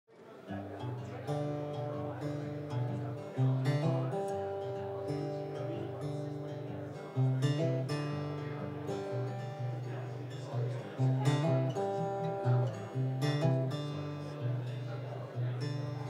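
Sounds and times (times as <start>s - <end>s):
acoustic guitar strumming chords: 0.4s - 16.0s.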